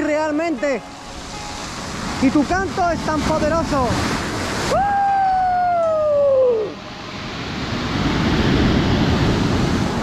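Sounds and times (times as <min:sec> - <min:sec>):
waves on pebble beach: 0:00.9 - 0:10.0.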